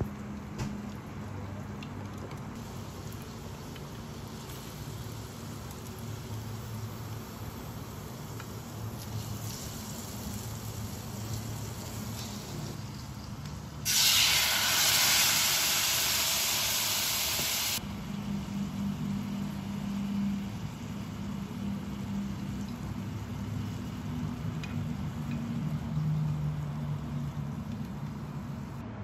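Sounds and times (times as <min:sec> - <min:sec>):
food frying in oil: 0:00.0 - 0:28.8
sauce sizzling with steam hiss: 0:02.6 - 0:28.8.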